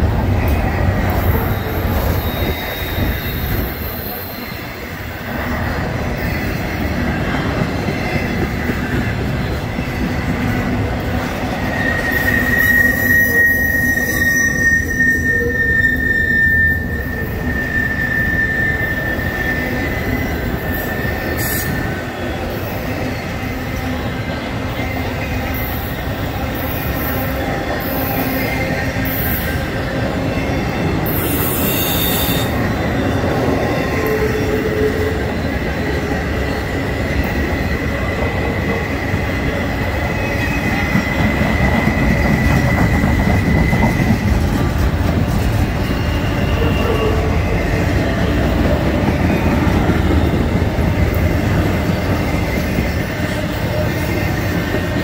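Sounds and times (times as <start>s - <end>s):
train wheels rumbling on rails: 0.0s - 55.0s
high wheel squeal: 0.3s - 55.0s.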